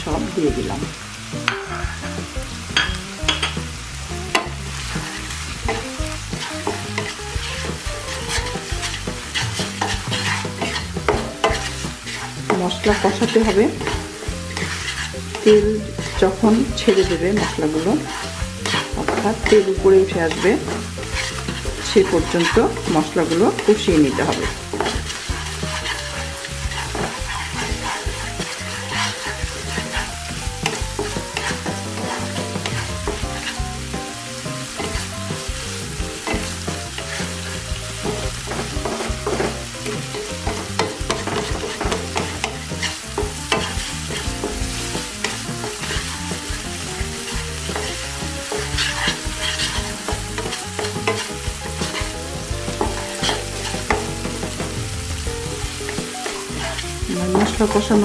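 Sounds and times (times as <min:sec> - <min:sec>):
oil popping and crackling: 0:00.0 - 0:58.0
spatula stirring: 0:00.0 - 0:58.0
spice paste sizzling in oil: 0:00.0 - 0:58.0.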